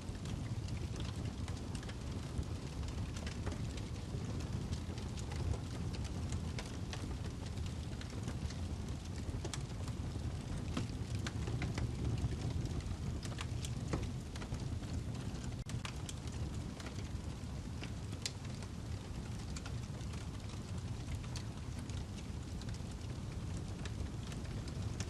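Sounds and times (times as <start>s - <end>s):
fire crackling: 0.0s - 25.0s
low rumble of flames: 0.0s - 25.0s
burning log popping: 0.1s - 25.0s.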